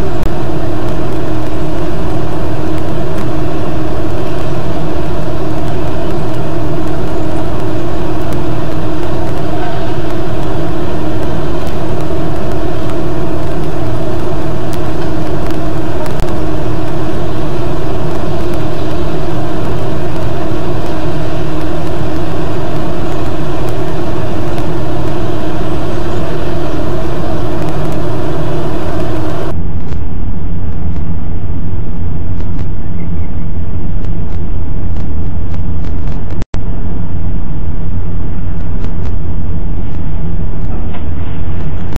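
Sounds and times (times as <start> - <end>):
distorted road traffic noise: 0.0 - 41.9.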